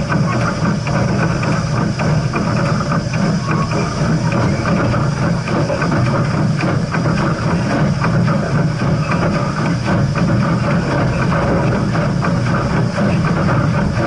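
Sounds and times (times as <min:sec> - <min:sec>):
clatter of train wheels: 0:00.0 - 0:14.0
steam train rumbling on rails: 0:00.0 - 0:14.0.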